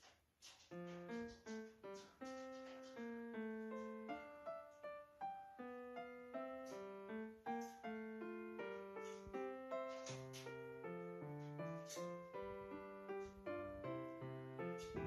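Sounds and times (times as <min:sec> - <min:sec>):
piano melody: 0:00.7 - 0:15.0.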